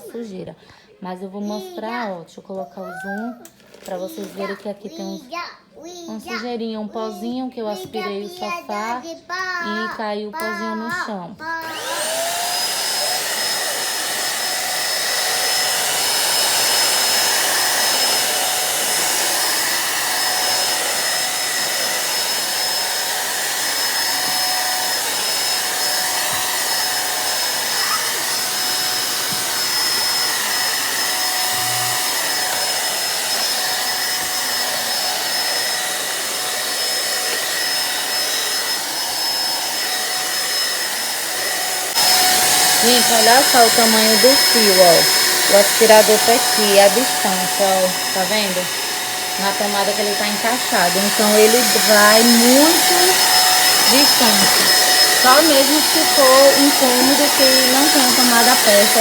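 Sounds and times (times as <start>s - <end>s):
vacuum cleaner running: 3.8s - 5.2s, 11.6s - 59.0s.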